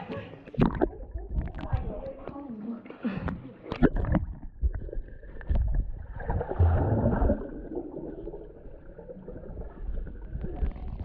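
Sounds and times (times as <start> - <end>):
muffled underwater rumble: 0.5 - 2.3, 3.7 - 11.0
underwater bubbling and knocks: 0.5 - 2.3, 3.2 - 11.0.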